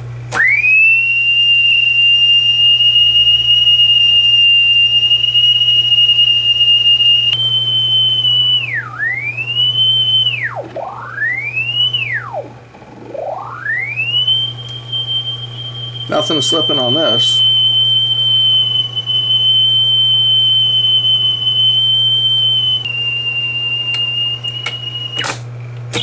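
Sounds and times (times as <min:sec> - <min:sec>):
high test tone from tape: 0:00.0 - 0:26.0
low hum: 0:00.0 - 0:26.0.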